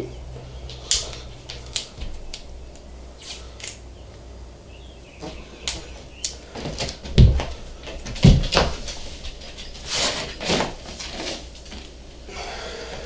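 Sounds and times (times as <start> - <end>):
low steady hum: 0.0 - 13.0
adhesive tape crackling: 0.3 - 4.2, 5.2 - 12.0.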